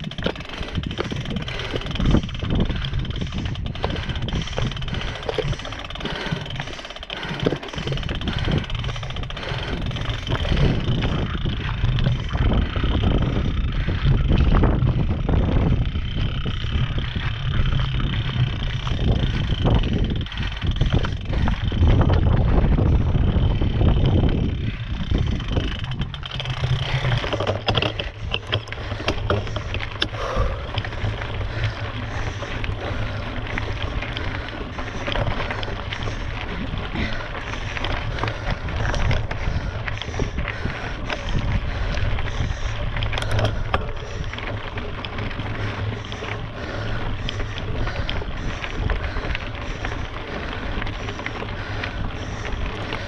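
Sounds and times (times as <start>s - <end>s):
bike clicks and rattles: 0.0s - 53.0s
bike ride noise: 0.0s - 53.0s
wind buffeting microphone: 0.0s - 53.0s.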